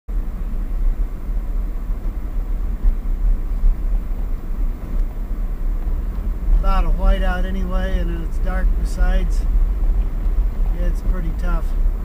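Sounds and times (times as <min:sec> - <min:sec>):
vehicle rumble on snowy road: 0:00.1 - 0:12.0.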